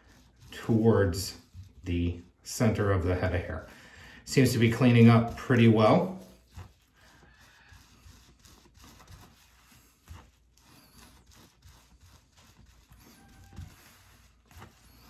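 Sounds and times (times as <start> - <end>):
cloth towel rubbing: 0.0 - 15.0.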